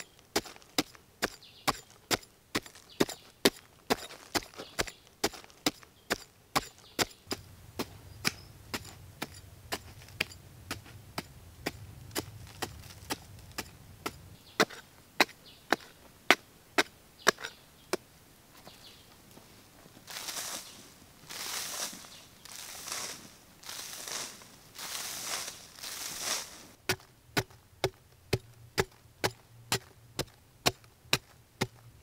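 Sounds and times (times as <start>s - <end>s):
spade chopping into dry soil: 0.0s - 18.0s, 21.3s - 32.0s.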